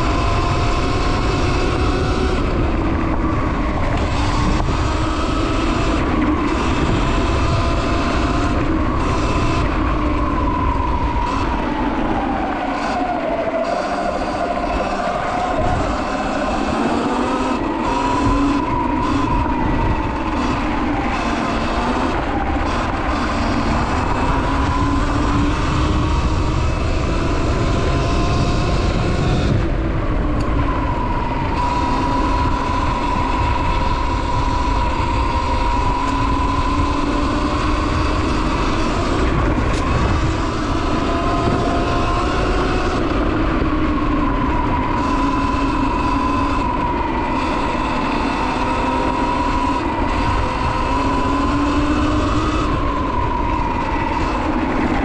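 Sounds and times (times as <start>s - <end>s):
electric motor whine: 0.0s - 55.0s
wind noise: 0.0s - 55.0s.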